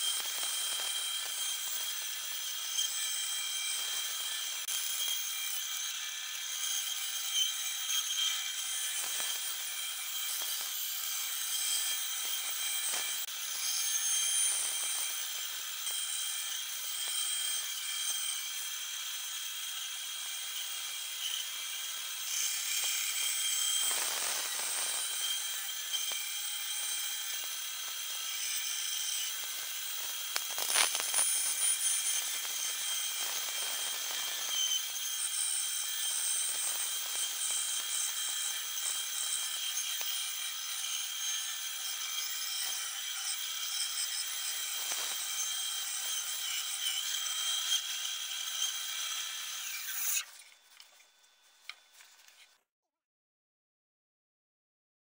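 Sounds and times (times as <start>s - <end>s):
bandsaw cutting wood: 0.0s - 51.9s.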